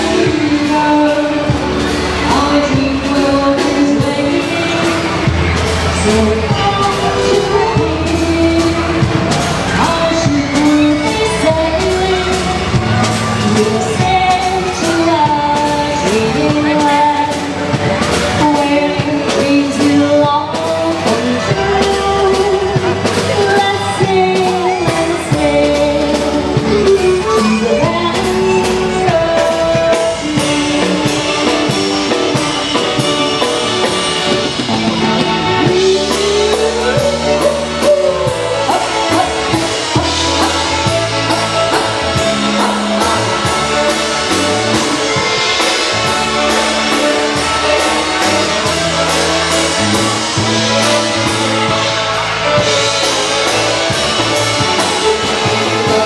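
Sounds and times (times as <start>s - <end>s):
polka band playing a waltz: 0.0s - 56.0s
steady bass line: 0.0s - 56.0s.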